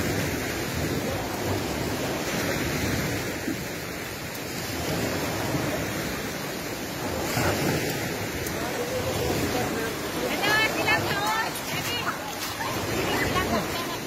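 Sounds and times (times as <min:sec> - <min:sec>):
sea waves washing onto shore: 0:00.0 - 0:14.0.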